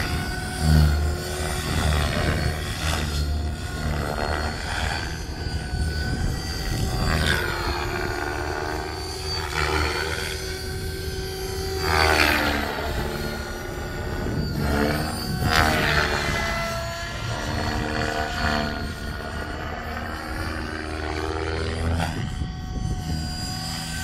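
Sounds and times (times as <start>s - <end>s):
model helicopter rotor whine: 0.0s - 24.0s.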